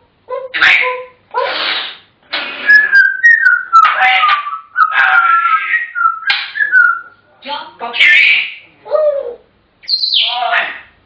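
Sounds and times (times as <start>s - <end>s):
parrot raspy chatter: 0.3s - 7.1s, 7.8s - 10.9s
parrot squawking: 0.3s - 7.1s, 7.8s - 11.0s
parrot whistling: 0.5s - 7.1s, 8.0s - 10.4s.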